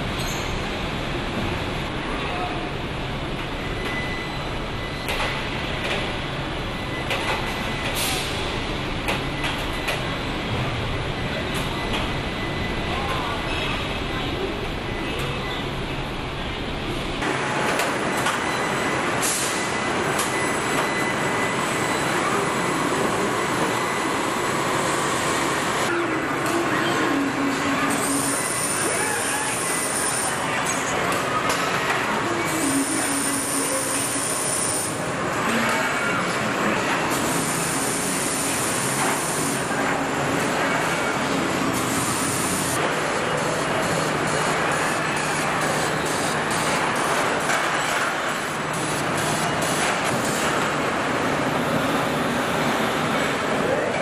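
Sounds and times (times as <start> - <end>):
factory line din: 0.0 - 54.0
industrial machinery running: 0.0 - 54.0.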